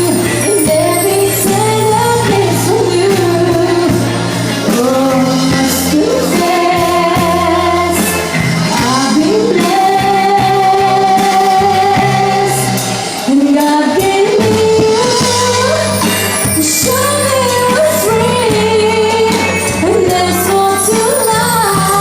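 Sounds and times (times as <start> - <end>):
bass: 0.0 - 22.0
drums and cymbals: 0.0 - 22.0
lead melody of sliding held notes: 0.0 - 22.0.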